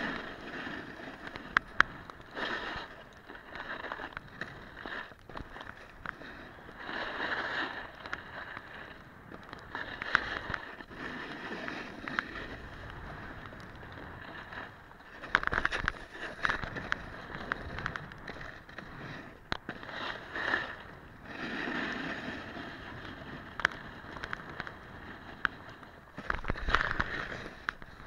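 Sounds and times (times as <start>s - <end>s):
snowboard carving on snow: 0.0s - 28.0s.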